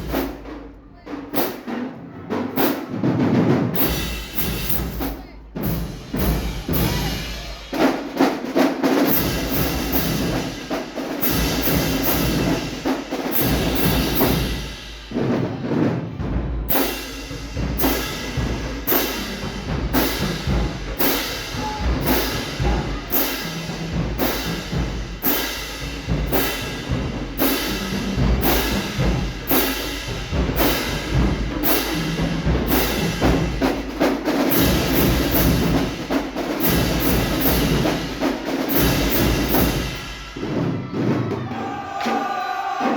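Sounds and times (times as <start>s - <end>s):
drums and percussion beat: 0.0s - 42.9s
marching band playing: 0.0s - 42.9s.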